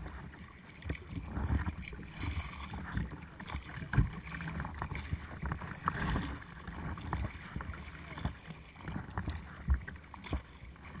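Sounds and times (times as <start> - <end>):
water splashing against kayak: 0.0 - 11.0.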